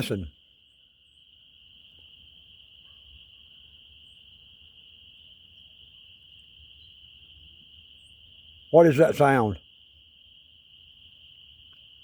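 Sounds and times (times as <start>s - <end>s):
chorus of night animals: 0.0s - 12.0s.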